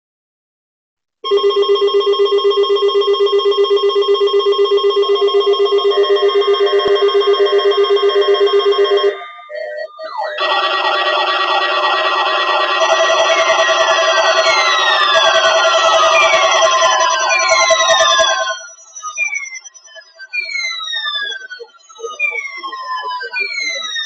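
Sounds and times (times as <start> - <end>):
fast alarm beeping: 1.3 - 24.0
rising siren-like warble: 3.5 - 24.0.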